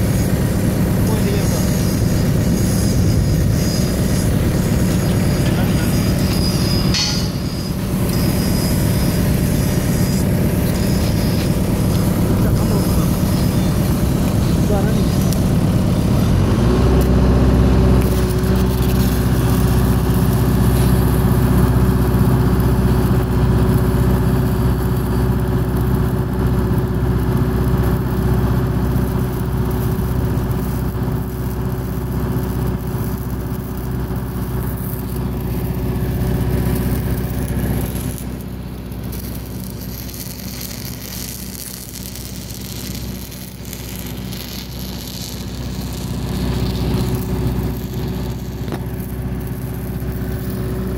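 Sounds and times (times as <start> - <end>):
arc welding crackling: 0.0 - 50.9
engine hum: 0.0 - 50.9.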